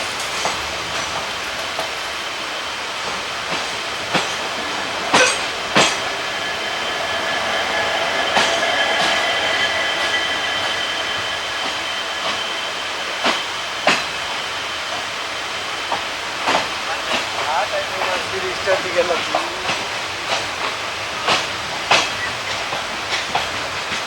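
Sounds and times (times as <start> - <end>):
train coaches rumbling: 0.0 - 24.0
high wheel squeal: 4.0 - 23.4.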